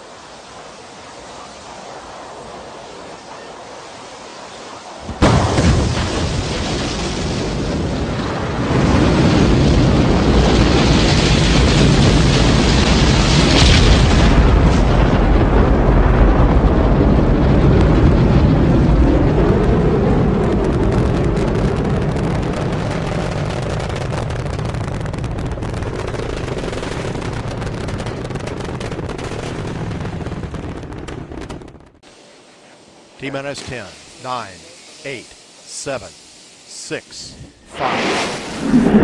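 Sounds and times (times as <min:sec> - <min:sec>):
crackling rocket engine rumble: 0:00.0 - 0:39.0.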